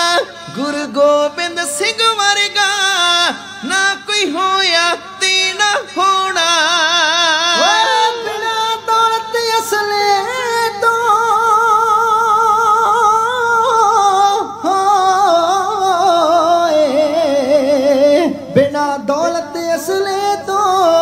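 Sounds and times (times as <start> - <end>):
man singing long wavering notes: 0.0 - 21.0.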